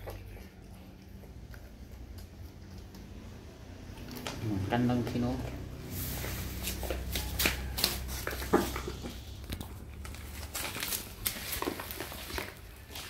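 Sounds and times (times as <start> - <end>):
dog chewing and licking: 0.0 - 13.0.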